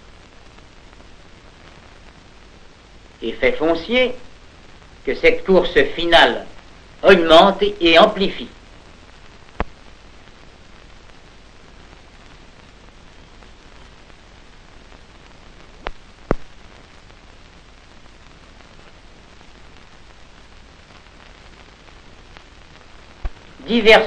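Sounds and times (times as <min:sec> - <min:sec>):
recording hiss: 0:00.0 - 0:24.0.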